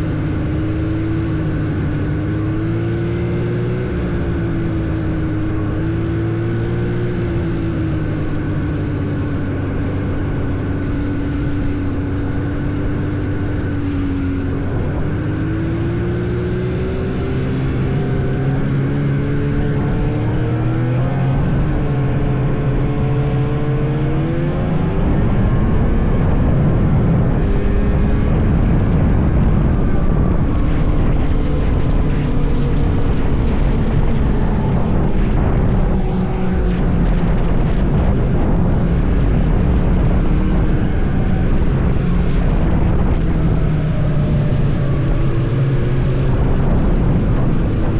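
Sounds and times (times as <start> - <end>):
snowmobile engine revving: 0.0 - 28.5, 29.2 - 47.9.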